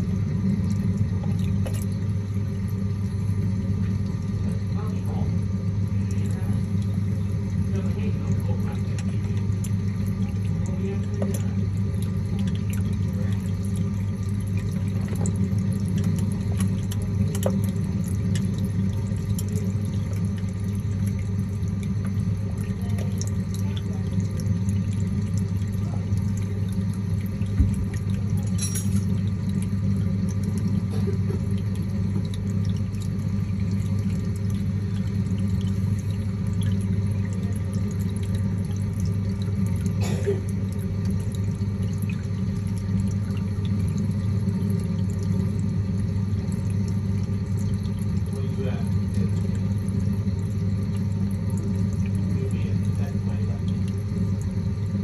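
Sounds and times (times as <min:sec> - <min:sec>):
low pump hum: 0:00.0 - 0:55.0
small drips and ticks: 0:00.0 - 0:55.0
water trickling and splashing: 0:00.0 - 0:55.0.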